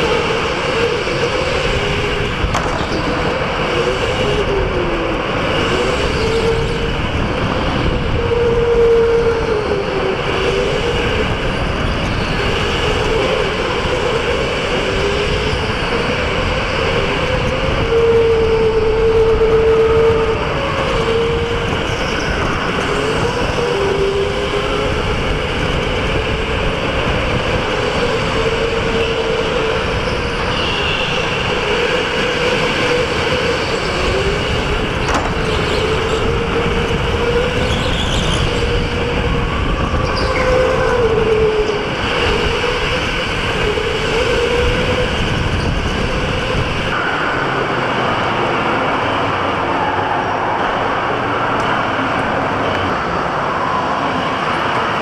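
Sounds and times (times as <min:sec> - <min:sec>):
electric motor whine: 0:00.0 - 0:49.2
tyres and chassis rumble: 0:00.0 - 0:55.0.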